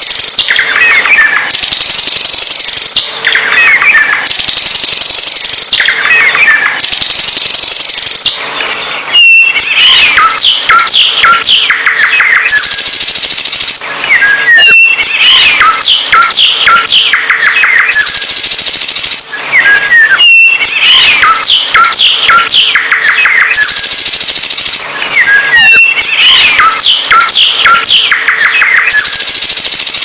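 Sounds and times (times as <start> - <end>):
songbird singing: 0.0 - 29.3.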